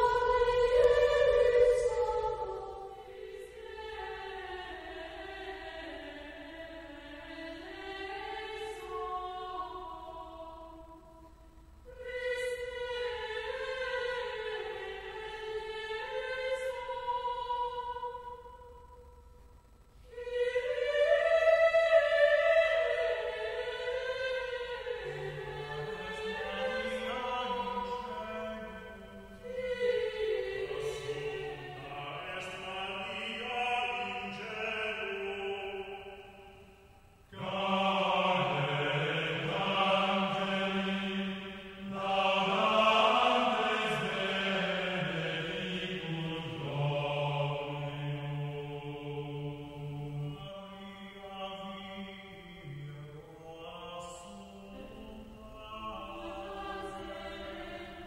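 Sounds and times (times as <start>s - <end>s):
choir chanting: 0.0s - 18.9s, 20.1s - 58.0s.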